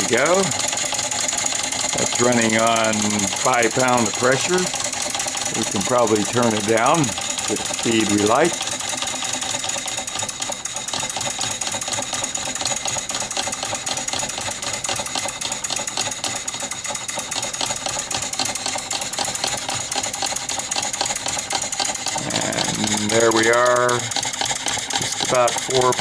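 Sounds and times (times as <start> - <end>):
model steam engine clattering: 0.0 - 26.0.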